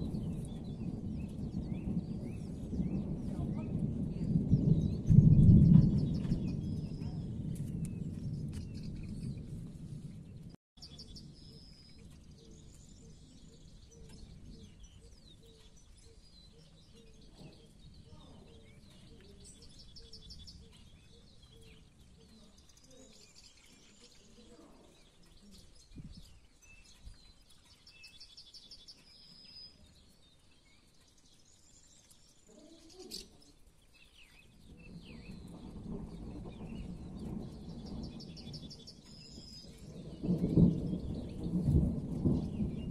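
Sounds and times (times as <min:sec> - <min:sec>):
low thunder rumbles: 0:00.0 - 0:32.5, 0:33.1 - 0:42.9.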